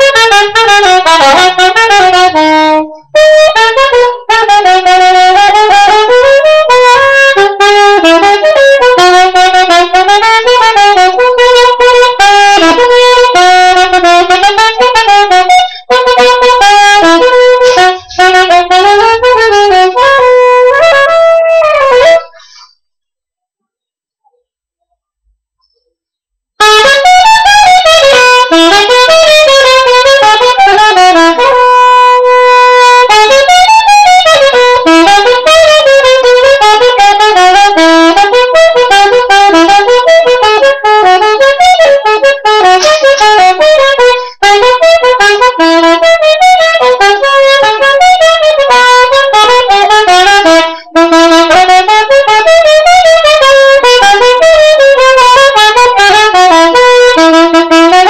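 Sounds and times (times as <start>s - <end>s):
soprano saxophone melody: 0.0s - 22.6s, 26.6s - 58.0s.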